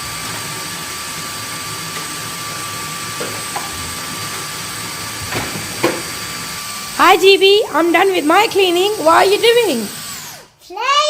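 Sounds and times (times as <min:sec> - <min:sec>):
vacuum cleaner motor running: 0:00.0 - 0:10.5.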